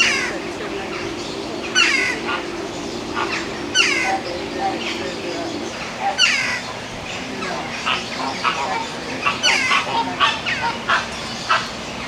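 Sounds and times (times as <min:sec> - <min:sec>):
birds calling: 0:00.0 - 0:10.6.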